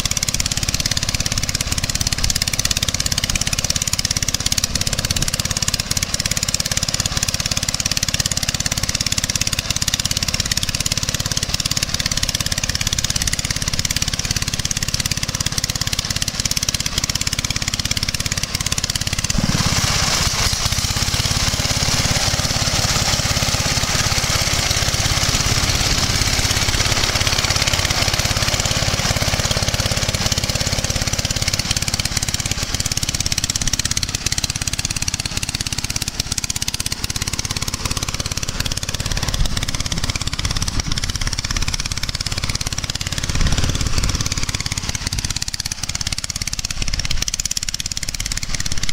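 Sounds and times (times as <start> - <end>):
engine running under load: 0.0 - 48.9.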